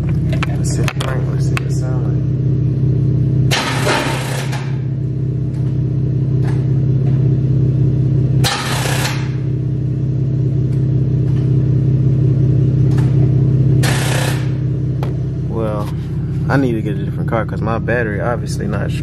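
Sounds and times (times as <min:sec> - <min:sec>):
car mechanical drone: 0:00.0 - 0:19.0.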